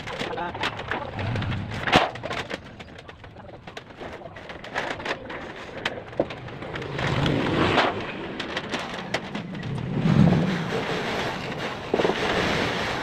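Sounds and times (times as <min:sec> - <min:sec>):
clattering on metal roofing sheets: 0:00.0 - 0:13.0.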